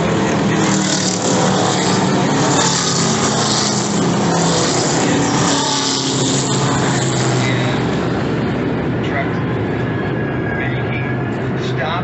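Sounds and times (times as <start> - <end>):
racing truck engines: 0.0 - 12.0.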